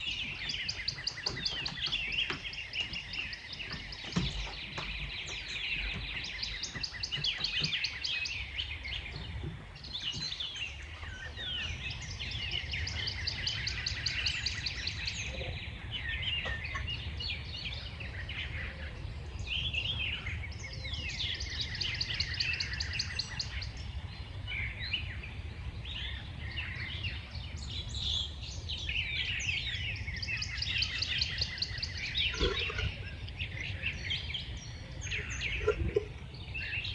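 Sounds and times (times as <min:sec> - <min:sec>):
birds singing and chirping: 0:00.0 - 0:36.9.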